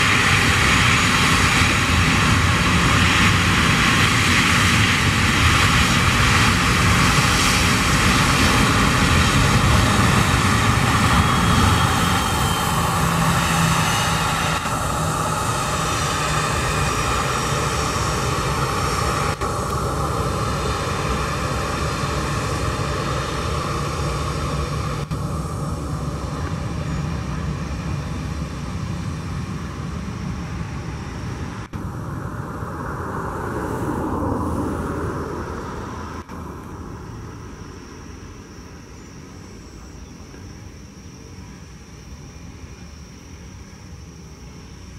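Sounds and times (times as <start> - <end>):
jet engines rumbling and whining: 0.0 - 44.9.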